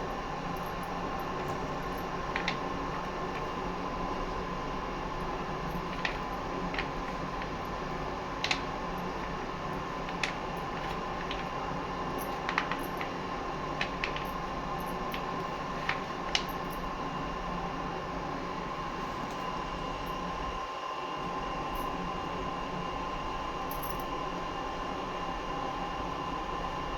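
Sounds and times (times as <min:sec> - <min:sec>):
steady background hum: 0:00.0 - 0:26.9.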